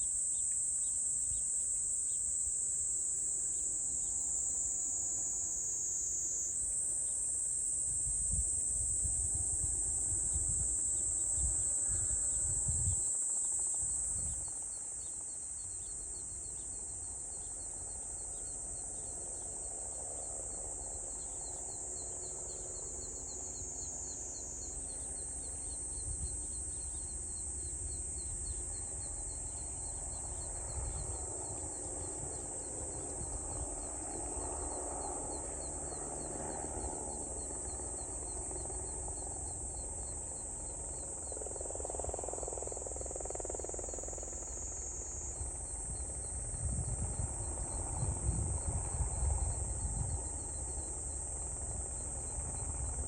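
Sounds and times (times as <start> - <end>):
high-pitched insect chorus: 0.0 - 53.0
insect pulsing at lower pitch: 3.9 - 14.8, 21.4 - 53.0.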